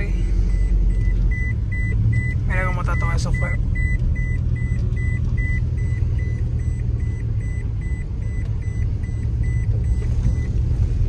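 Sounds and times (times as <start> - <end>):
car engine rumbling: 0.0 - 11.0
rapid electronic warning beep: 0.4 - 10.6.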